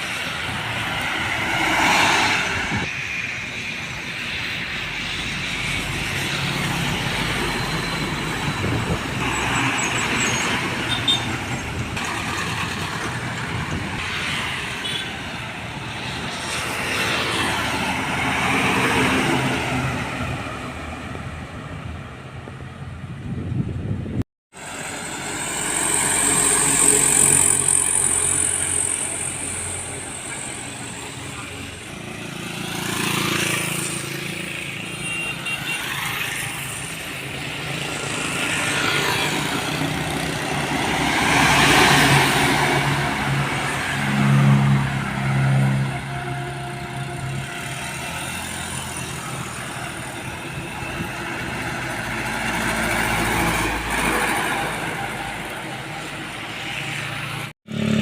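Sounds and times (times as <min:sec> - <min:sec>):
trucks and vehicles passing: 0:00.0 - 0:58.0.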